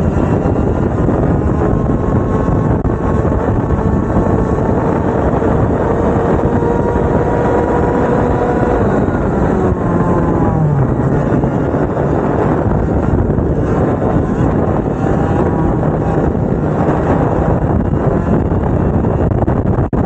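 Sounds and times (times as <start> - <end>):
wind noise rushing: 0.0 - 20.0.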